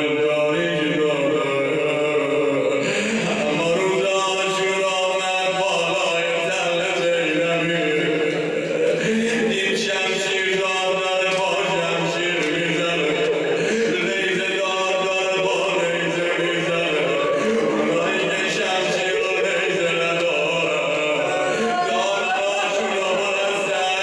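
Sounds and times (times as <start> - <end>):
man chanting into a microphone: 0.0 - 24.0.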